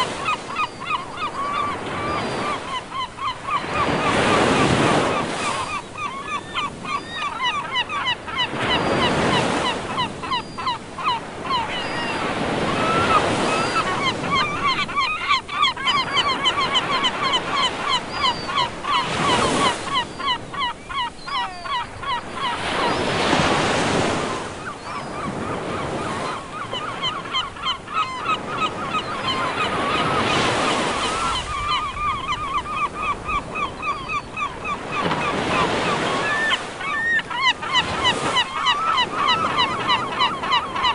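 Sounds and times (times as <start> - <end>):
waves breaking: 0.0 - 6.9, 7.8 - 40.9
seagulls calling: 0.0 - 40.9.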